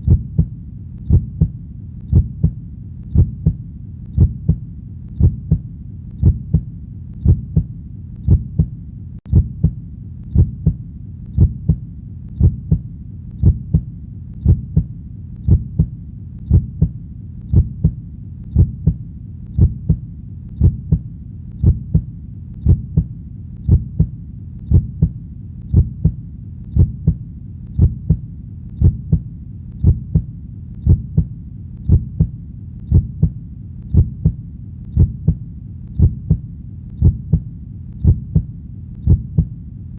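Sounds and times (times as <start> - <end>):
heartbeat: 0.0 - 39.6
low steady rumble: 0.0 - 39.9.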